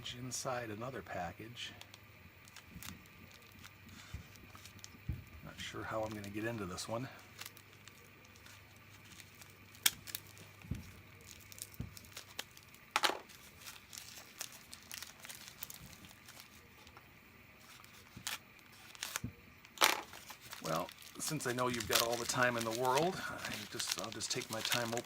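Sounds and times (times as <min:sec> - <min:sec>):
packaging crinkling and crackling: 0:01.8 - 0:25.0
packaging ripping: 0:02.4 - 0:05.0, 0:06.0 - 0:17.0, 0:17.6 - 0:25.0.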